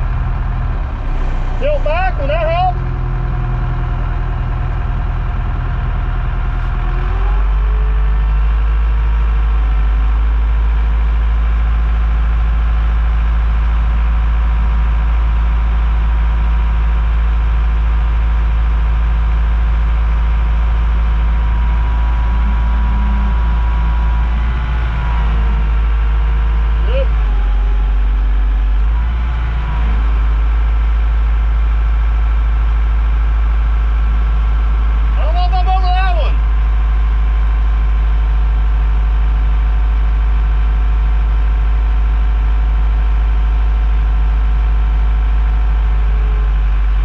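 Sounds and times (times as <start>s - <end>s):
diesel engine revving: 0.0s - 47.0s.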